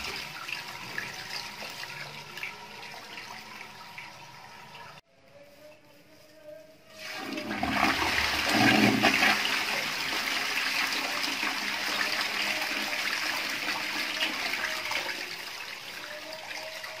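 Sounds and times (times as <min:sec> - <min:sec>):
toilet flushing: 0:00.0 - 0:05.0, 0:06.9 - 0:17.0.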